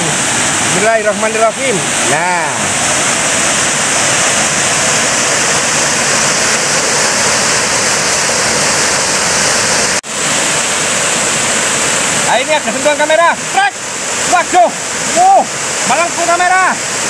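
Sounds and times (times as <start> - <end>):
water rushing over a weir: 0.0 - 17.0.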